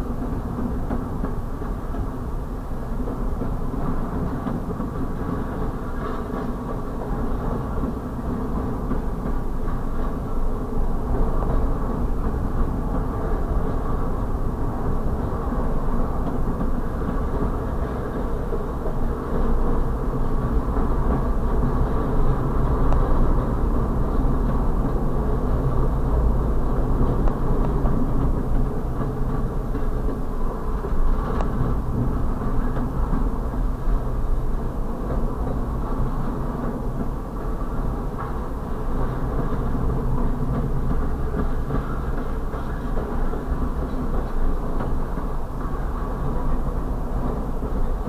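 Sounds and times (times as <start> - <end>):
rumble of steel wheels on rail: 0.0 - 48.0.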